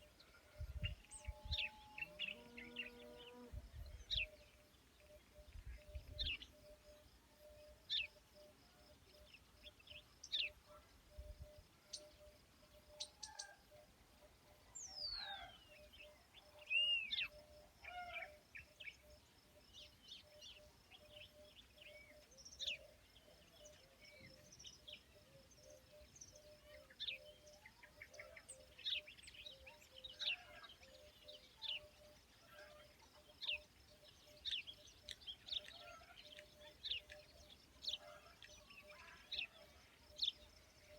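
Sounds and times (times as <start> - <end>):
wild birds chirping: 0.0 - 40.9.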